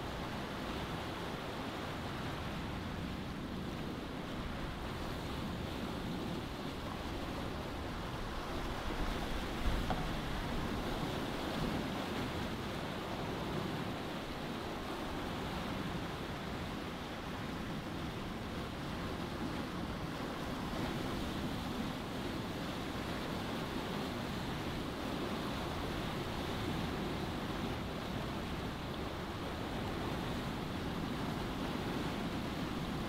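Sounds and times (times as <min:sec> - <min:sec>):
water rushing along hull: 0:00.0 - 0:33.0.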